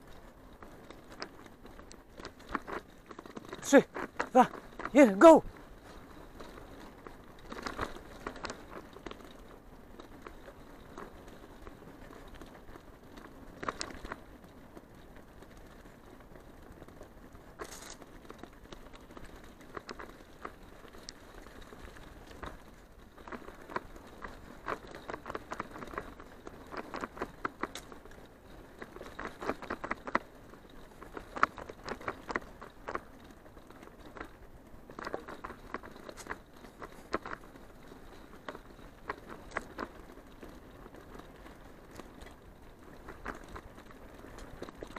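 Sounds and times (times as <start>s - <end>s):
bicycle rolling on dirt track: 0.0s - 44.9s.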